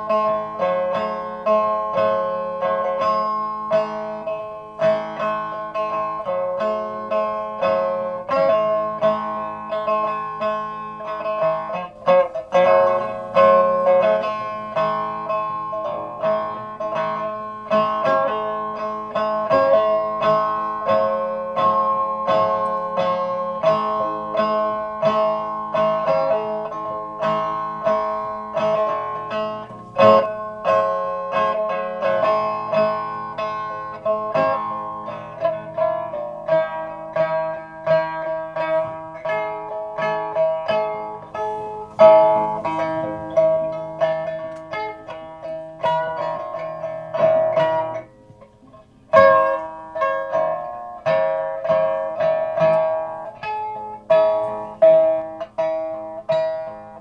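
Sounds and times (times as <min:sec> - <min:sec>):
plucked string instrument: 0:00.0 - 0:57.0.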